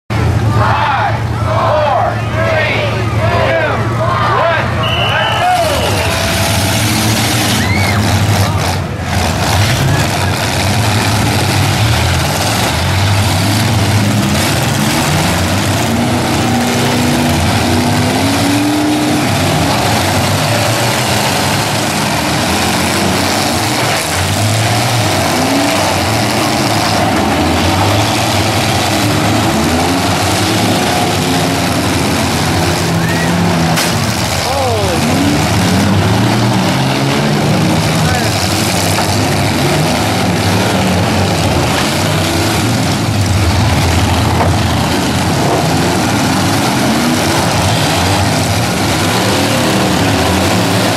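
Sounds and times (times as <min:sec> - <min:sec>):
truck engines revving: 0:00.0 - 0:50.9.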